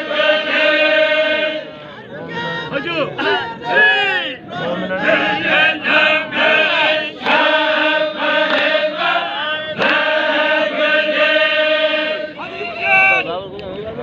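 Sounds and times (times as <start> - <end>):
men chanting a devotional song: 0.0 - 13.3.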